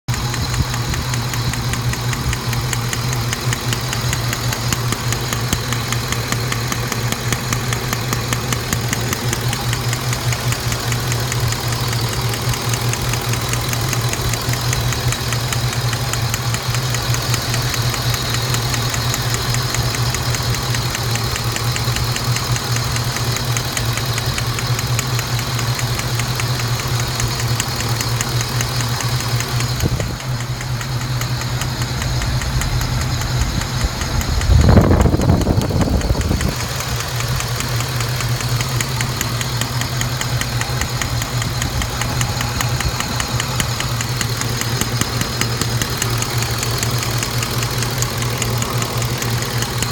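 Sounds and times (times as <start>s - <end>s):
car engine idling: 0.0s - 49.9s
rapid even clicking: 0.1s - 49.9s.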